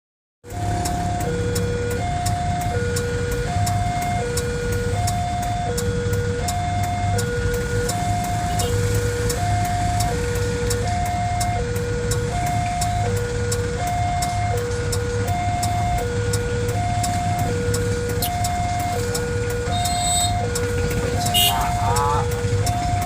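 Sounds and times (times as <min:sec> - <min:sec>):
vehicle engines idling: 0:00.4 - 0:23.0.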